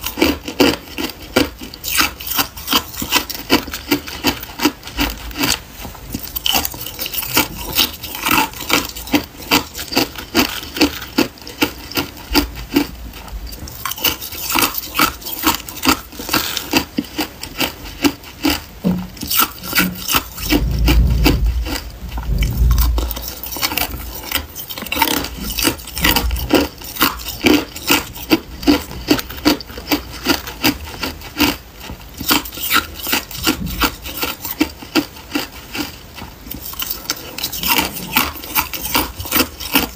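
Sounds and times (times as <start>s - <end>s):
ice cubes crunched by teeth: 0.0s - 18.6s, 19.2s - 31.6s, 32.2s - 35.9s.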